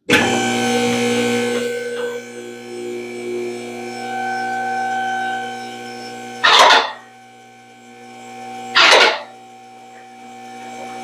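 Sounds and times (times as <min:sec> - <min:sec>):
car lift motor humming: 0:00.0 - 0:11.0.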